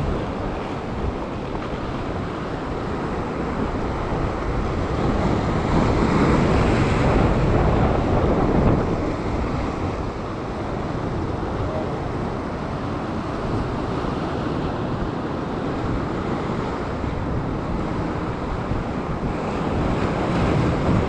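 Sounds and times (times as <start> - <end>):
surf washing over rock: 0.0 - 21.0
wind buffeting microphone: 0.0 - 21.0.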